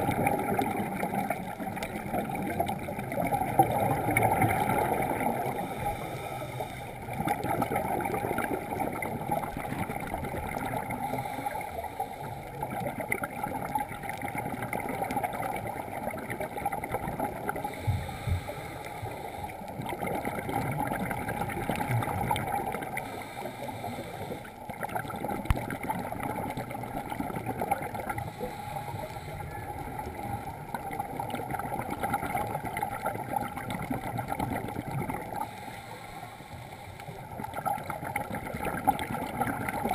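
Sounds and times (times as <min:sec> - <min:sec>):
scuba breathing: 0:00.0 - 0:39.9
underwater regulator bubbles: 0:00.0 - 0:39.9.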